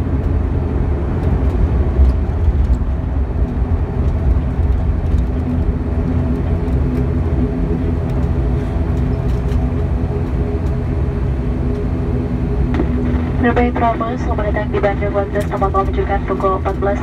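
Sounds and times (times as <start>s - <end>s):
steady hum: 0.0s - 17.0s
turboprop engine low drone: 0.0s - 17.0s.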